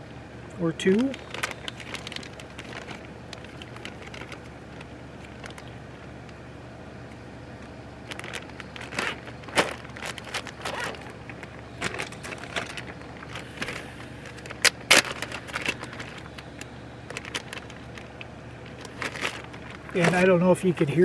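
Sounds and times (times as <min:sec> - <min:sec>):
electric heater hum: 0:00.0 - 0:21.0
food packaging rustling and clicking: 0:00.8 - 0:06.4, 0:07.1 - 0:20.4.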